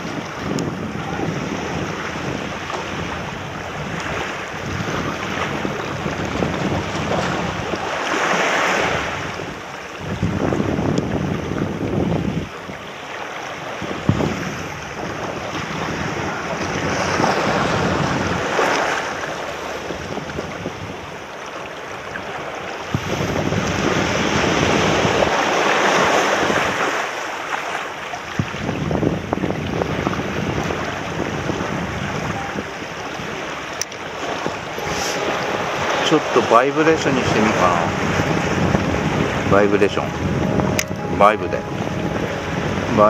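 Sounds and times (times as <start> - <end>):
wind on microphone: 0.0 - 27.0, 28.1 - 43.0.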